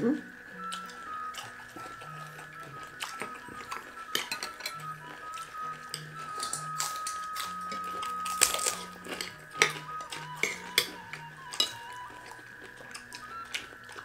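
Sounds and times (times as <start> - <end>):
background music: 0.0 - 14.0
spoons clinking on plates: 0.6 - 13.9.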